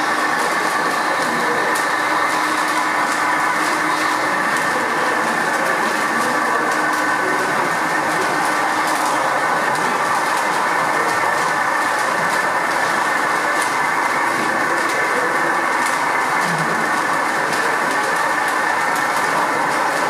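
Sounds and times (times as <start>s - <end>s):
simulated diesel engine drone: 0.0s - 20.0s.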